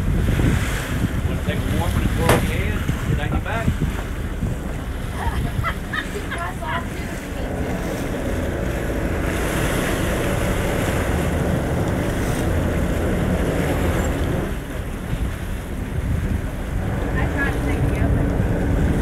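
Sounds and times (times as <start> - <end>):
boat engines running: 0.0 - 19.0
churning water: 0.0 - 19.0
wind buffeting microphone: 0.0 - 19.0.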